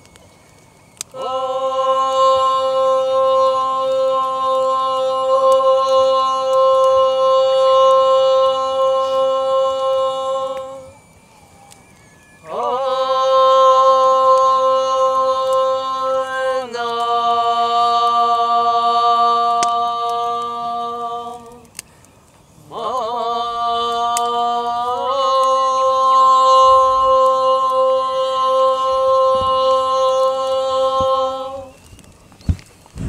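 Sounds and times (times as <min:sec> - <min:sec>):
person chanting held vowel tones: 0:00.0 - 0:32.3.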